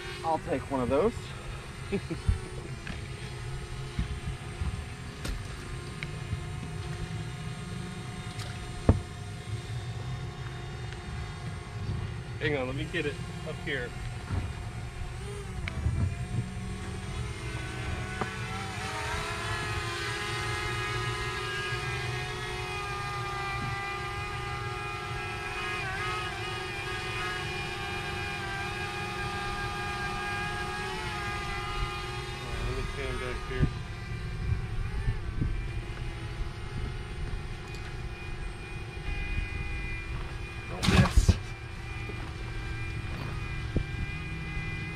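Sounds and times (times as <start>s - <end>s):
drone propellers whirring: 0.0s - 44.9s.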